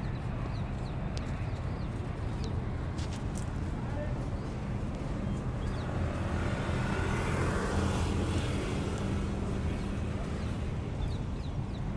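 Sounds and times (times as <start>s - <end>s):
passing vehicle: 0.0s - 11.9s.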